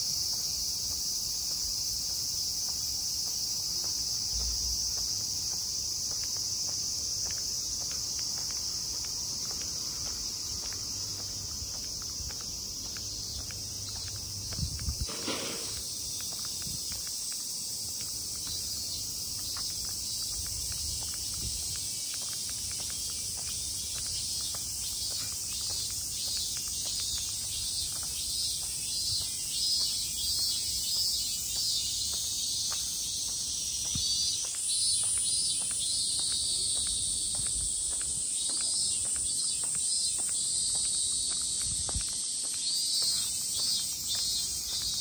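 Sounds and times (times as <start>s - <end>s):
cicadas droning: 0.0s - 45.0s
faint soft footsteps: 0.1s - 45.0s.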